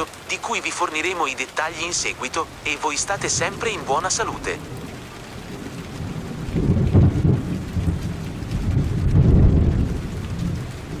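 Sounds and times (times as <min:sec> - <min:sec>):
steady rain: 0:00.0 - 0:11.0
thunder rumbling: 0:01.7 - 0:11.0.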